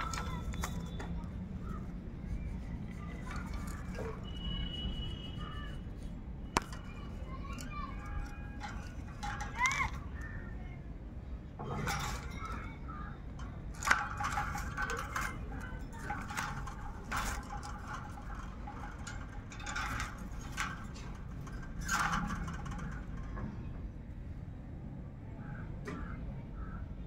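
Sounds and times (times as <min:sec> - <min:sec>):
low outdoor background: 0:00.0 - 0:27.0.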